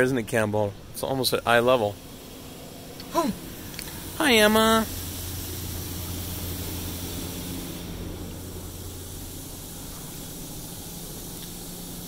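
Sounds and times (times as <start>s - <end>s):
low hum: 0.0s - 12.0s
car wash water spray hiss: 0.6s - 12.0s.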